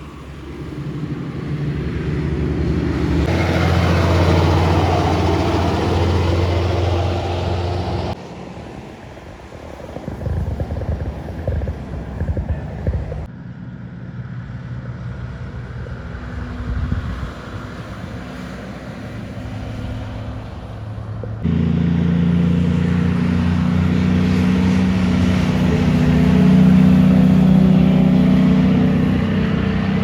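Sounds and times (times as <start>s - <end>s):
truck diesel engines: 0.0s - 30.0s.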